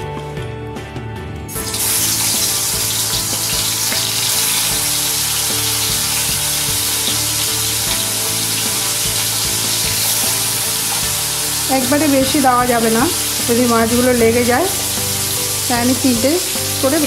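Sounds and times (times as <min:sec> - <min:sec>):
fish sizzling in hot oil: 0:01.5 - 0:17.0.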